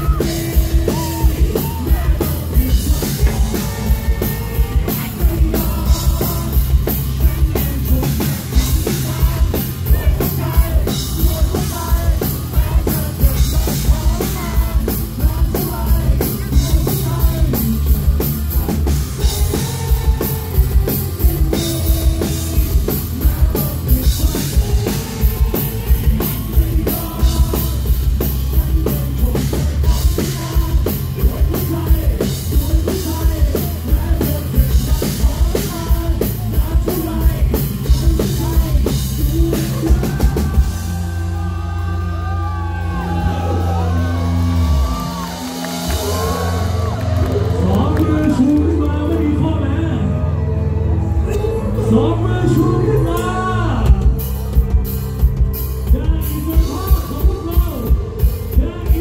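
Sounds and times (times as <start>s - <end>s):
drum kit beat: 0.0s - 48.8s, 52.4s - 59.0s
electric guitars: 0.0s - 59.0s
live rock band: 0.0s - 59.0s.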